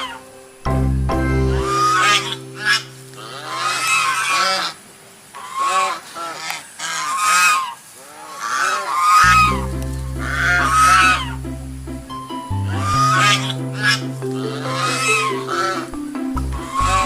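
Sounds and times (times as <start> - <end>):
waterfowl honking: 1.6 - 11.5, 12.1 - 17.0.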